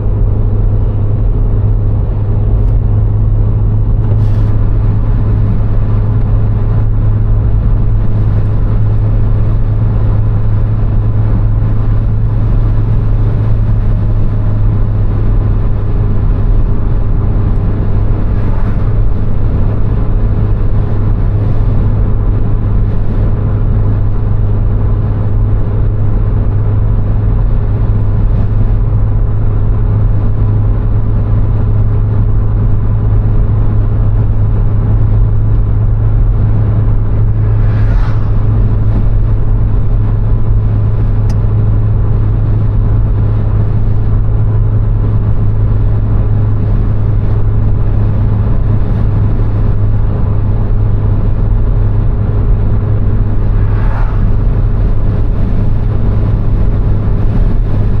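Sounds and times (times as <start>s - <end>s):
car engine drone: 0.0s - 58.0s
tyre and road noise: 0.0s - 58.0s.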